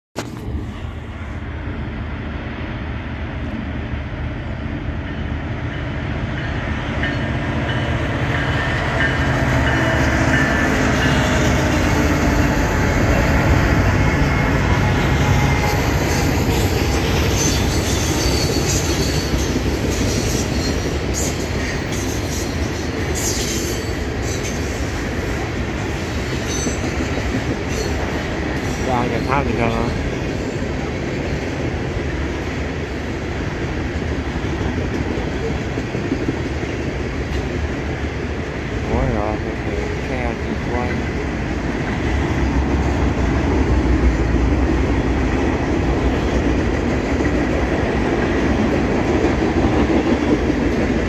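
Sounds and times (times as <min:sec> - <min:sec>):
diesel locomotive engines rumbling: 0:00.2 - 0:51.0.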